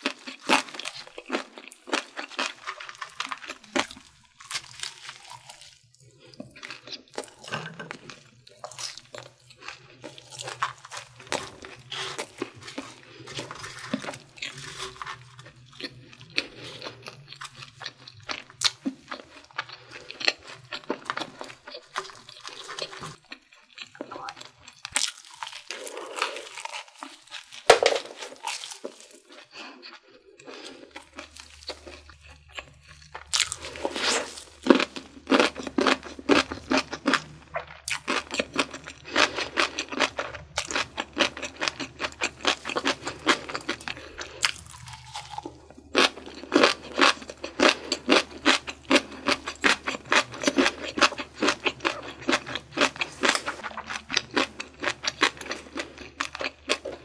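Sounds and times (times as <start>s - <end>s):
crunchy chewing of fried food: 0.0s - 57.0s.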